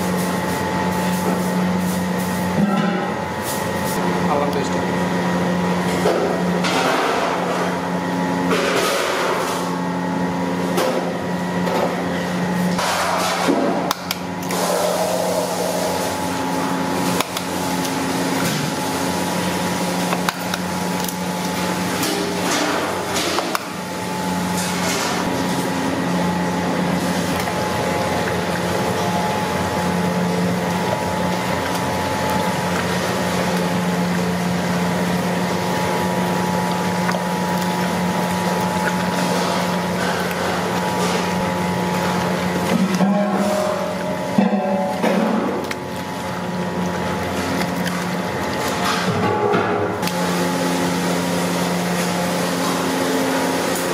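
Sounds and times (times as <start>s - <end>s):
mechanical motor hum: 0.0s - 53.9s.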